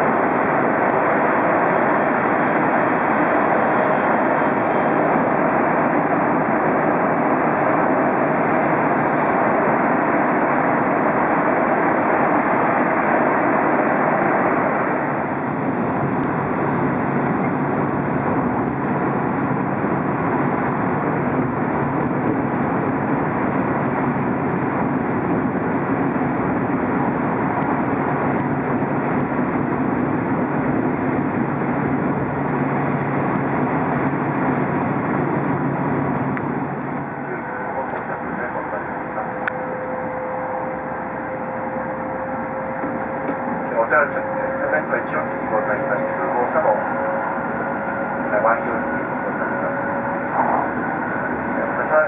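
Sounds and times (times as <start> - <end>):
high-speed train rushing noise: 0.0 - 52.0.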